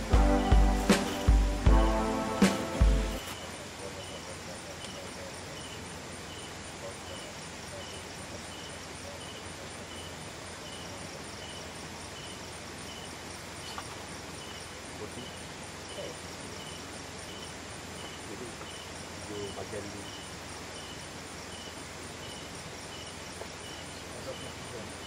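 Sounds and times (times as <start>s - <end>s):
high-pitched pulsing insect trill: 0.0s - 25.0s
insect chirping: 0.0s - 25.0s
steady hiss: 0.0s - 25.0s.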